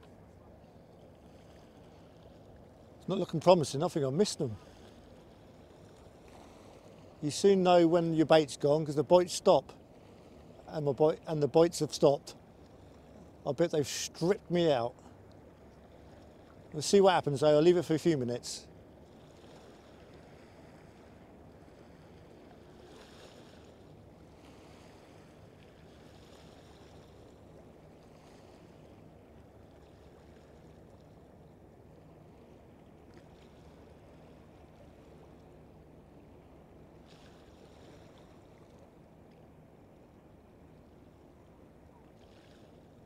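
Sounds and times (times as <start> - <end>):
low rumble of calm sea: 0.0 - 43.0
small waves washing: 0.0 - 43.0.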